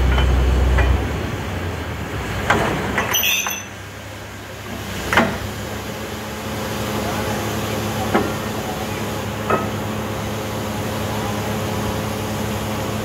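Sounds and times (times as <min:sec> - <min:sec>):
deep engine drone: 0:00.0 - 0:03.0, 0:03.9 - 0:13.0.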